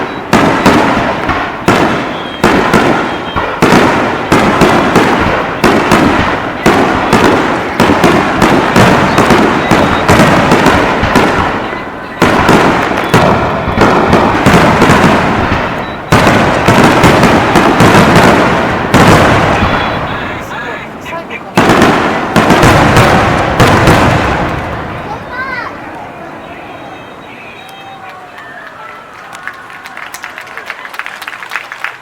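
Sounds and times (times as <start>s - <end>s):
fireworks bursting: 0.0s - 29.4s.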